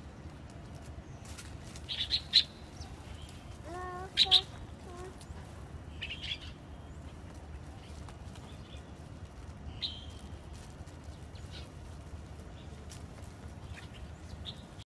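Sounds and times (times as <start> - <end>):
sparrows chirping: 0.0 - 14.8
steady low rumble: 0.0 - 14.8.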